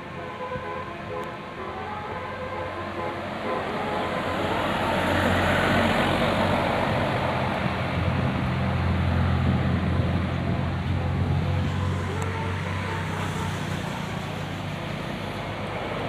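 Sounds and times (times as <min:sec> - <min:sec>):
bus engine running: 0:00.0 - 0:16.0
road and tyre noise: 0:00.0 - 0:16.0.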